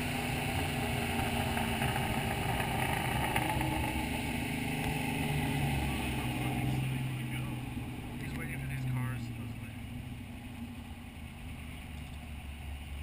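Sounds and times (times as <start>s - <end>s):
car engine running inside cabin: 0.0s - 13.0s.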